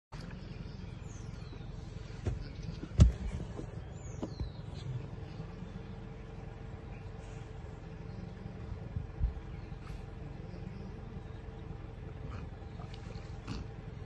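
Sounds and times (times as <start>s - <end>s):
low outdoor rumble: 0.1s - 14.0s.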